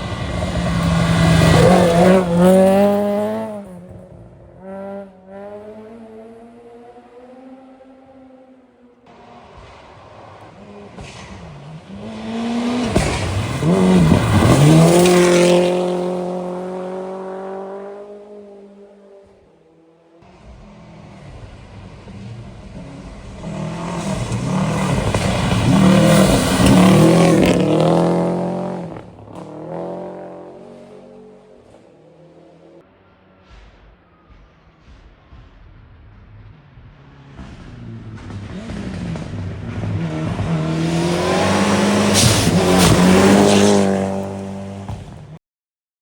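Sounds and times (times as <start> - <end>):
rally cars passing at speed: 0.0 - 35.4, 36.3 - 45.4.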